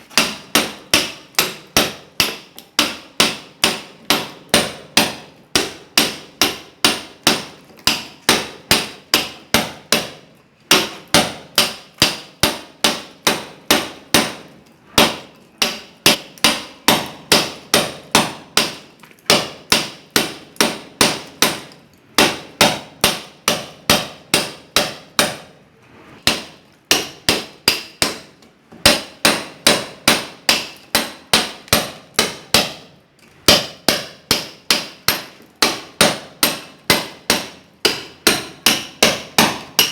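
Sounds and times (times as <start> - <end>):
hammer striking steel chisel: 0.1 - 25.5, 26.2 - 32.9, 33.5 - 39.9.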